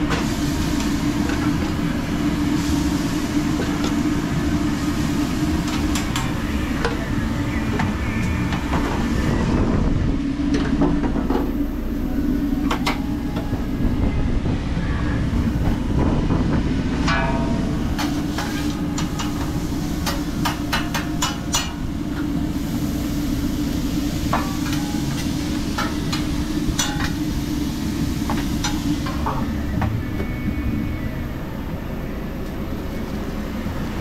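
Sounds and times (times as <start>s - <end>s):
machine drone with low hum: 0.0s - 34.0s.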